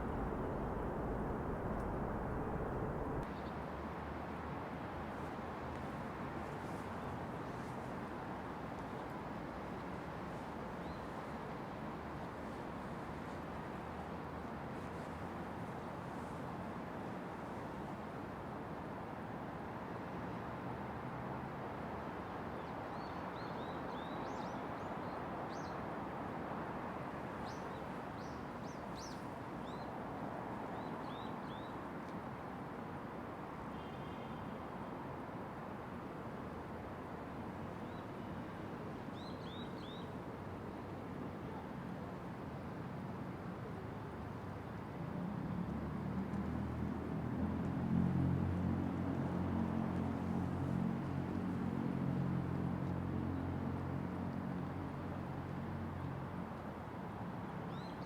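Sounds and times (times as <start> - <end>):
distant city traffic hum: 0.0 - 18.6, 21.6 - 58.0.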